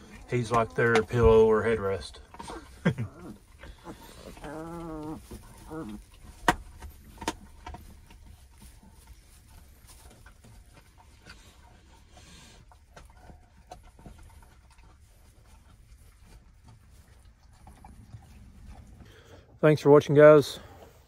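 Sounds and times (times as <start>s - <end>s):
puppies rustling in bedding: 0.0s - 19.0s.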